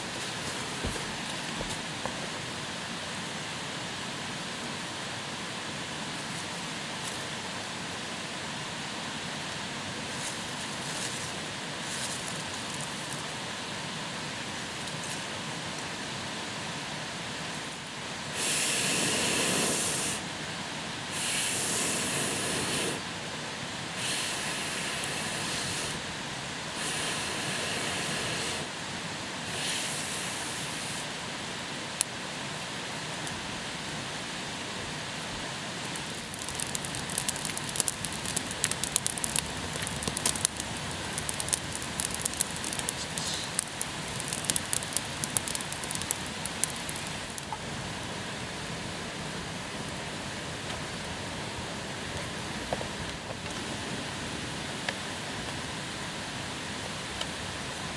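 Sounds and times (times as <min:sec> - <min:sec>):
fire crackling: 0:00.0 - 0:53.8.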